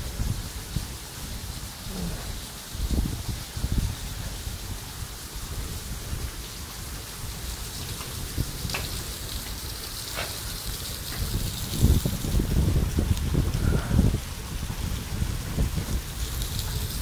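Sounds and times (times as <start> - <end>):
heavy rain on pavement: 0.0 - 17.0.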